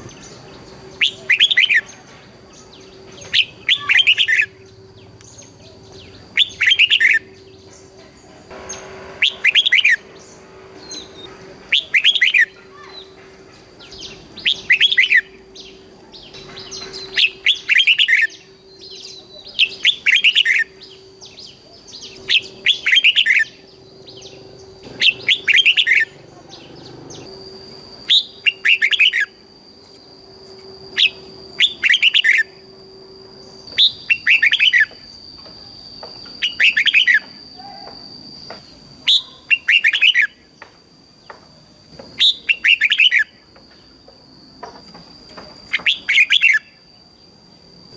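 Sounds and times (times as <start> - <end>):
bulbul whistled song: 0.0 - 2.0, 2.6 - 7.9, 8.7 - 13.2, 13.8 - 40.6, 42.2 - 43.9, 45.6 - 46.9
faint steady high tone: 0.0 - 47.9.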